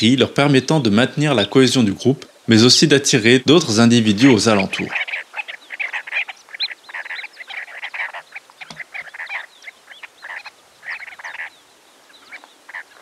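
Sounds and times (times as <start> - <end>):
sandgrouse flight calls: 0.0 - 13.0.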